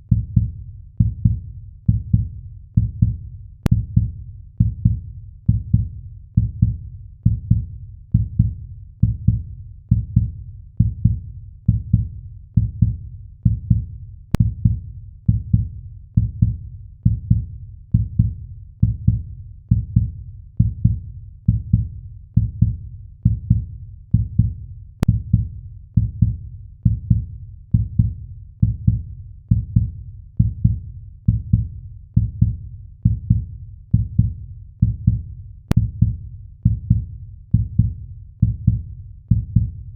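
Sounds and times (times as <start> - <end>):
heartbeat thumps: 0.1 - 39.9.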